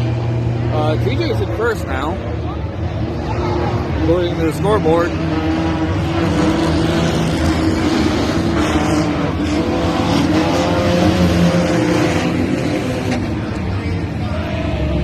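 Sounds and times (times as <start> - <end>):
race car engines: 0.0 - 15.0
road and tyre noise: 0.0 - 15.0.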